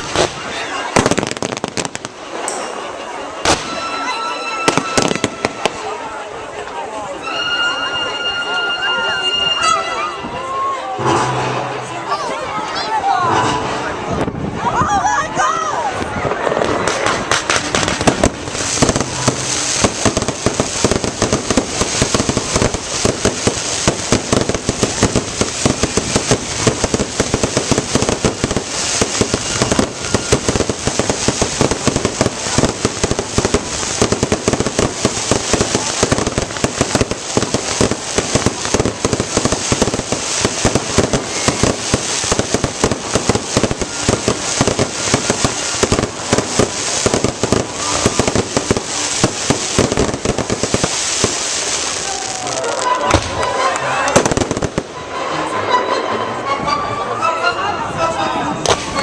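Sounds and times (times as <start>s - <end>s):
fireworks cracking and banging: 0.0s - 7.4s, 10.9s - 14.6s, 15.9s - 55.3s, 58.6s - 59.0s.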